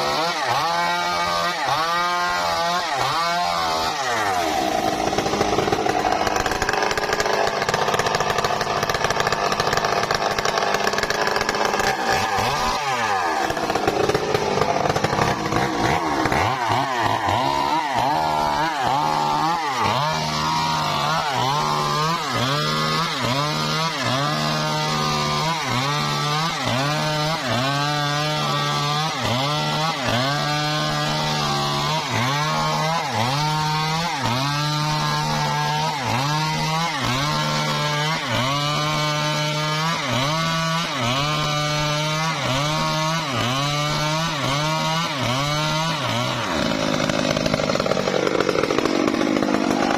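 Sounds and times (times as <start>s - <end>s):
engine saw cutting timber: 0.0s - 49.9s.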